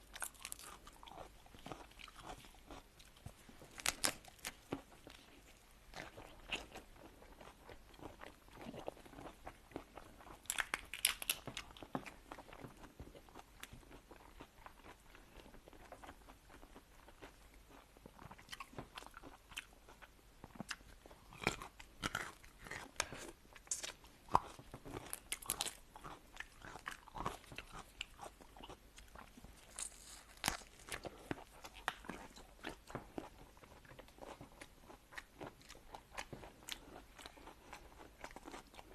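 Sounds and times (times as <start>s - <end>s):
crunching and chewing seafood: 0.0s - 38.9s.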